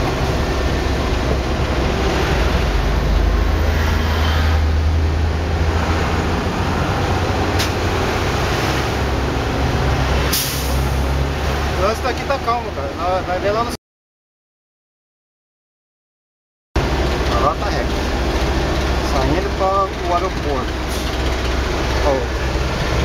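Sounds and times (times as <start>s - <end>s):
truck engine and road rumble: 0.0s - 13.8s, 16.8s - 23.0s.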